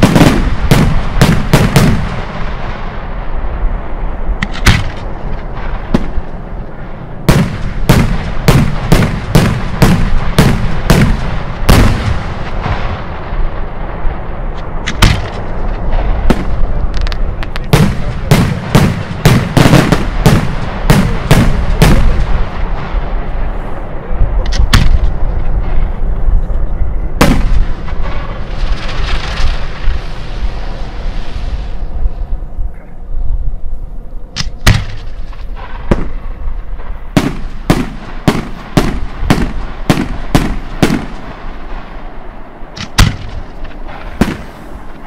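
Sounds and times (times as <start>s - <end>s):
firework bangs and booms: 0.0s - 32.5s, 34.4s - 45.0s
low rumble: 0.0s - 45.0s.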